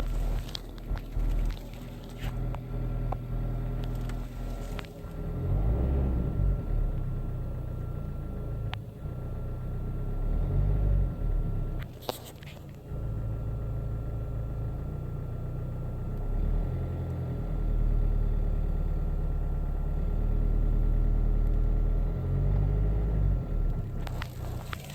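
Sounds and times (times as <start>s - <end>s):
car engine low rumble: 0.0s - 24.9s.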